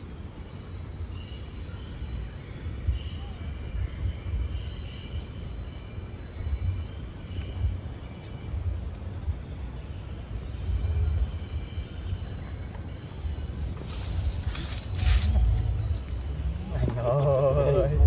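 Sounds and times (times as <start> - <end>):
distant birds chirping: 0.0 - 18.0
wind on microphone: 2.1 - 18.0.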